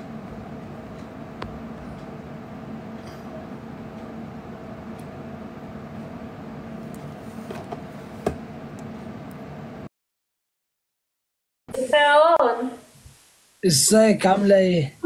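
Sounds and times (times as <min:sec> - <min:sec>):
room tone hum and hiss: 0:00.0 - 0:09.9, 0:11.7 - 0:15.0.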